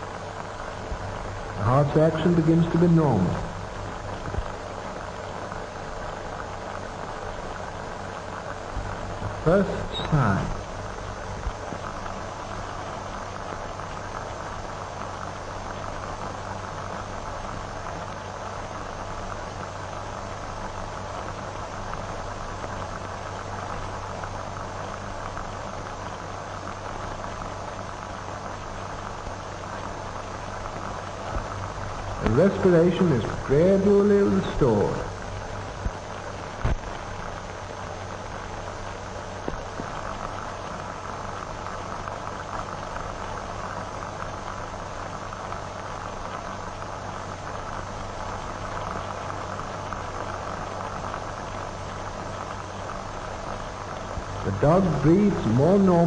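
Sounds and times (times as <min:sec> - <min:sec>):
film soundtrack hiss and crackle: 0:00.0 - 0:56.0
low mains hum: 0:00.0 - 0:56.0.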